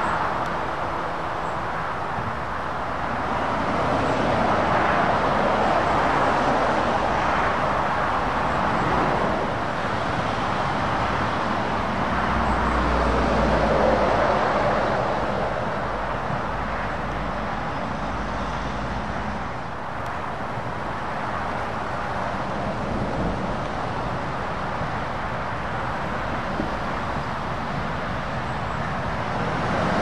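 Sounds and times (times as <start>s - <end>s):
traffic driving past: 0.0s - 30.0s.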